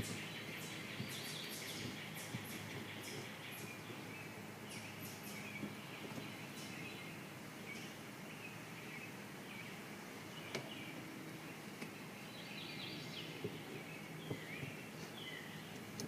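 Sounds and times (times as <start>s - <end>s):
birds chirping: 0.0s - 16.0s
honeybees humming: 0.0s - 16.0s.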